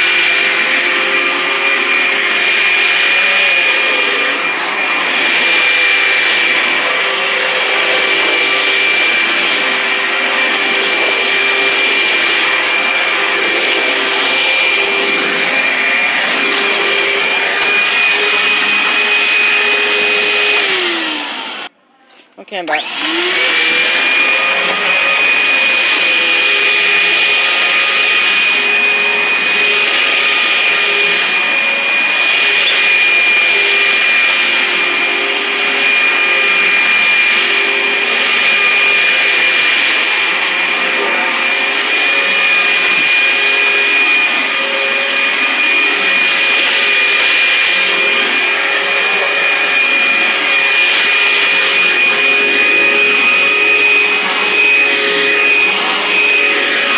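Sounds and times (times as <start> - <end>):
upright vacuum cleaner whining: 0.0 - 56.9.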